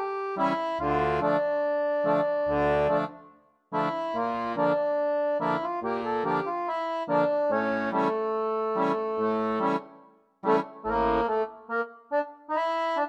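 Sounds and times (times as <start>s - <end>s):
background music of held chords: 0.0s - 3.2s, 3.8s - 13.0s.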